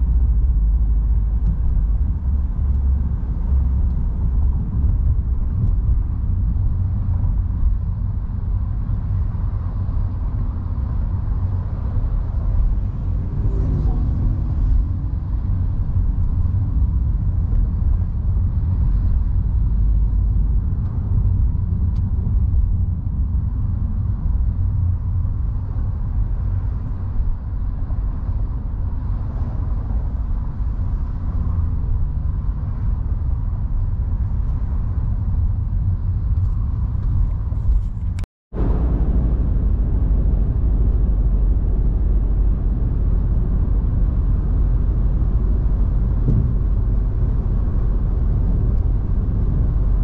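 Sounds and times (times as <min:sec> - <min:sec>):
car driving at speed: 0:00.0 - 0:50.0.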